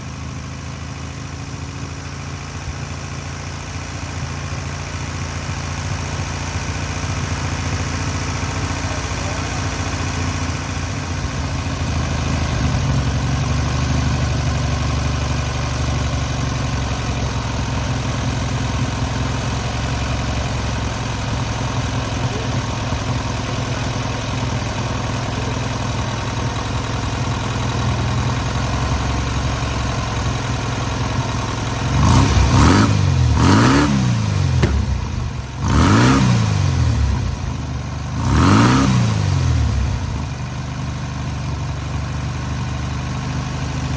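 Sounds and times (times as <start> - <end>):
car engine running and revving: 0.0 - 43.9.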